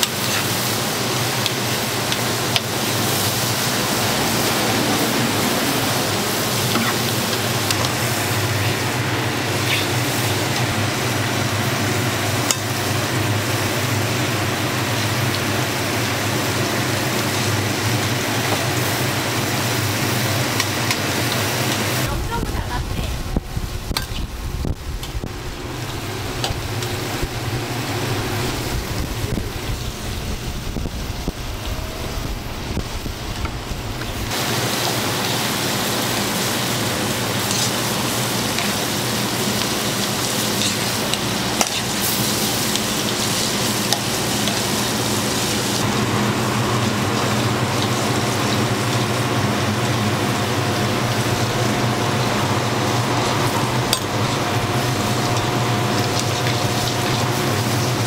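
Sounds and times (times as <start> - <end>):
food sizzling in oil: 0.0 - 58.0.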